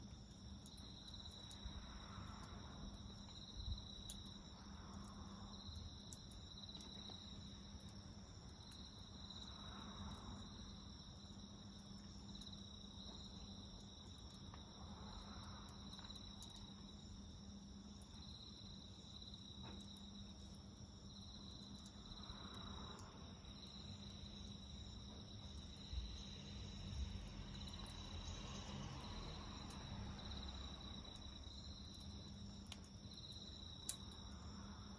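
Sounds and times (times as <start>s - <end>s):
insects trilling: 0.0s - 34.9s
wood fire crackling: 0.0s - 34.9s.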